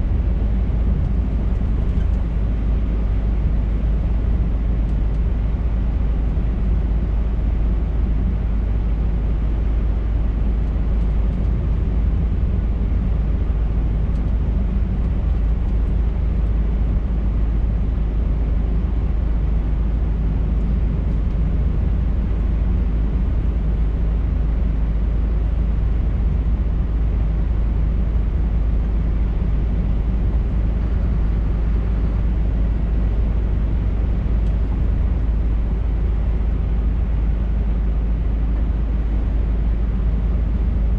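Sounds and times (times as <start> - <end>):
truck diesel engine rumble: 0.0 - 40.9.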